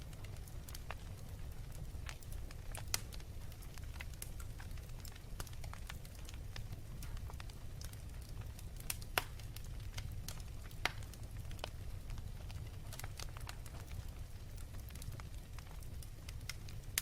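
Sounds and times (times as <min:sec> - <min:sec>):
fire crackling pops: 0:00.0 - 0:17.0
fire low rumble: 0:00.0 - 0:17.0.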